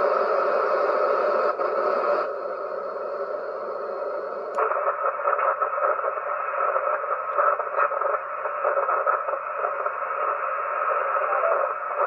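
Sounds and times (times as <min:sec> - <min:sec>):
harsh radio noise: 0:00.0 - 0:12.0
radio crackles: 0:00.0 - 0:12.0.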